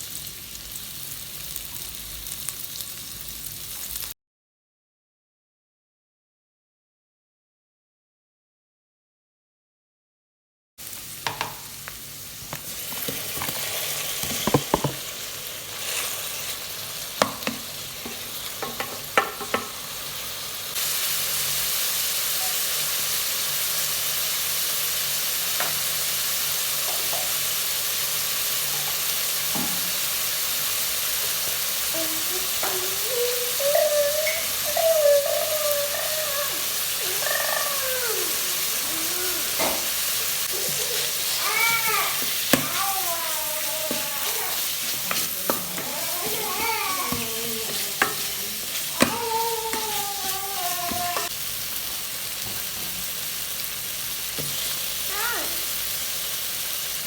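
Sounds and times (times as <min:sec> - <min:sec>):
food sizzling in hot oil: 0:00.0 - 0:04.2, 0:10.8 - 0:57.0.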